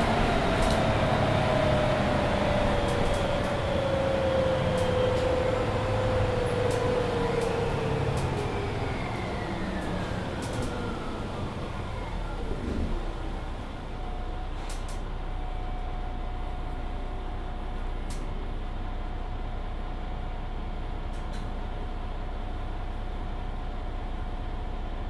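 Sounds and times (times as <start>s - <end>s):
bus drivetrain whine: 0.0s - 25.0s.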